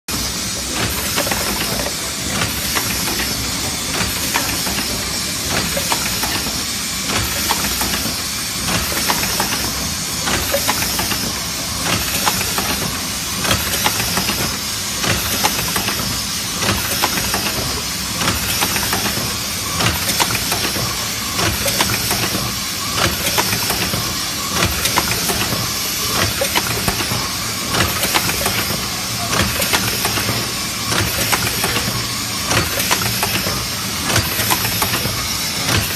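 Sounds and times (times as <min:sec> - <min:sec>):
machine hiss: 0:00.1 - 0:35.9
mechanical clacks and knocks: 0:00.3 - 0:35.9.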